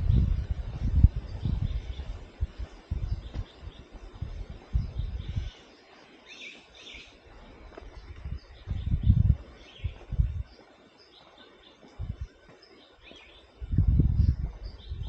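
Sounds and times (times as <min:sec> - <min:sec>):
low rumbles on microphone: 0:00.0 - 0:05.6, 0:07.3 - 0:10.7, 0:11.8 - 0:15.0
small birds chirping: 0:00.0 - 0:15.0.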